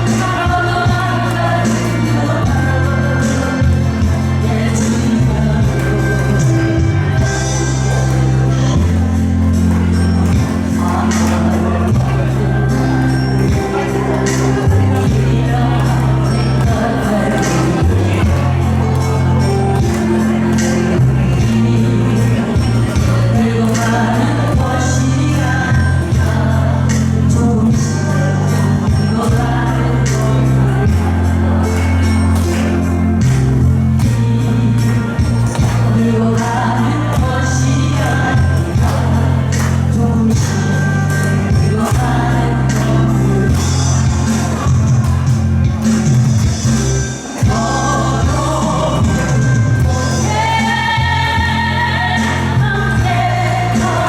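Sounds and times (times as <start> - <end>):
trot song with bass and percussion: 0.0 - 54.0.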